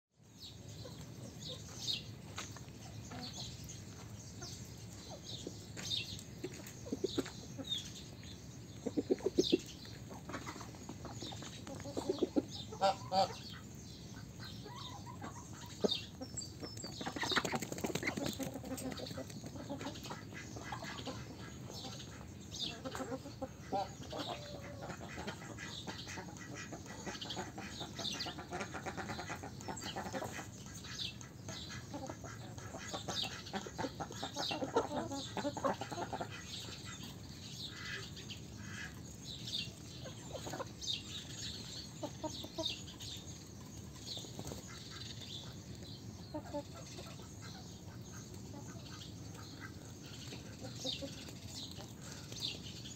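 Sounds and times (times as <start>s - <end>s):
hens pecking at ground: 0.7s - 52.9s
hens clucking: 2.8s - 52.6s.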